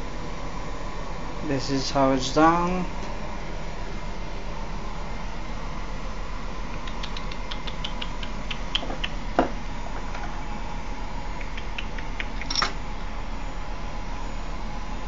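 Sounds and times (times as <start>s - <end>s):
background hiss and hum: 0.0s - 15.0s.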